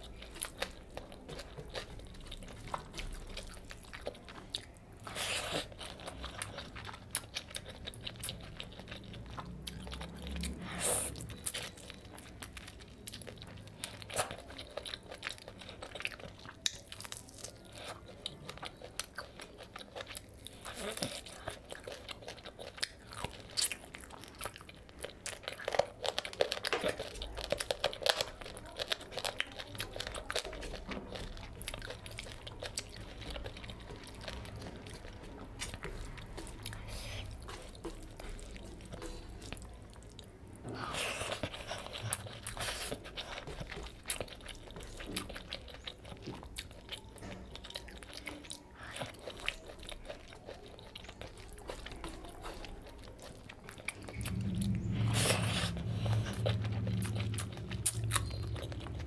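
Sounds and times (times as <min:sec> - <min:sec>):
chewing and biting food: 0:00.0 - 0:59.0.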